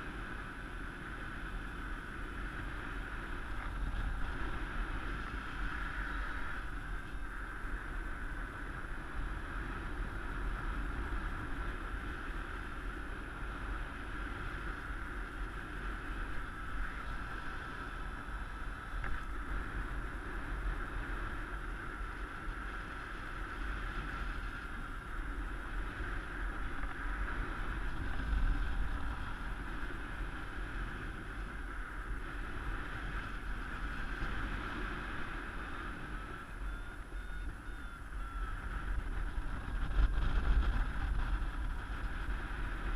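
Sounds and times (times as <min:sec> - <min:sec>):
wind rumbling on microphone: 0:00.0 - 0:42.9.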